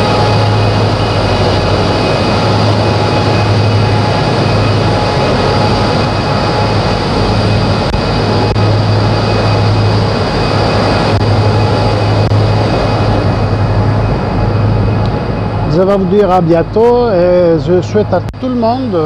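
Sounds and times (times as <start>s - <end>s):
mill machinery drone: 0.0s - 19.0s.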